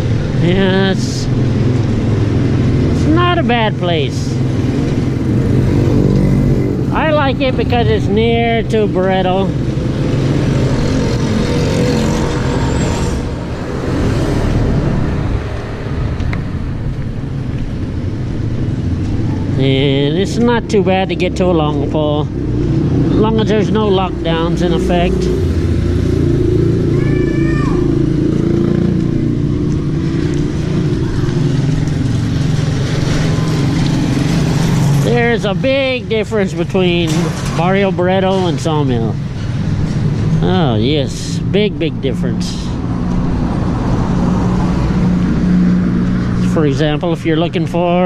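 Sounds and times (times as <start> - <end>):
motor vehicles passing: 0.0 - 48.0.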